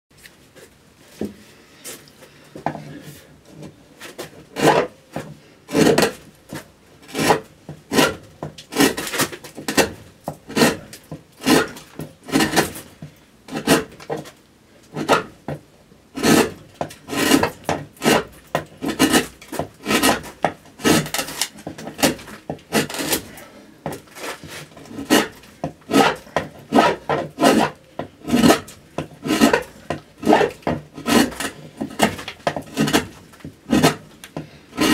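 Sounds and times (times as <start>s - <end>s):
gouge scraping wood: 4.2s - 4.9s, 5.7s - 14.2s, 14.9s - 15.4s, 16.2s - 34.9s.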